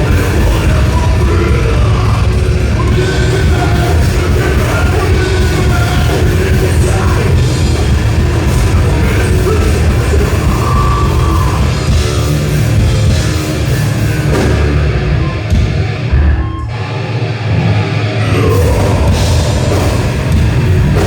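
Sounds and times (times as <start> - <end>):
fast pounding drums: 0.0 - 16.6, 18.3 - 21.0
distorted electric guitars: 0.0 - 21.0.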